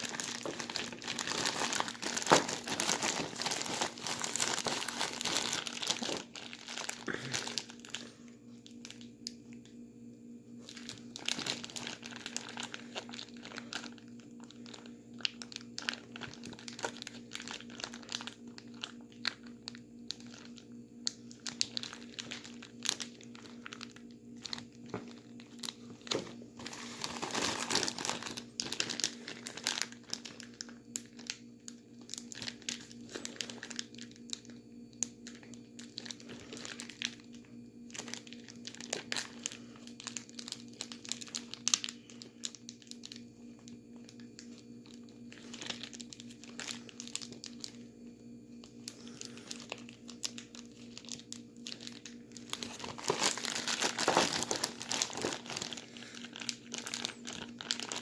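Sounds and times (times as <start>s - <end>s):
plastic bag crinkling: 0.0s - 9.8s, 10.6s - 47.9s, 48.5s - 58.0s
faint steady hum: 0.0s - 58.0s.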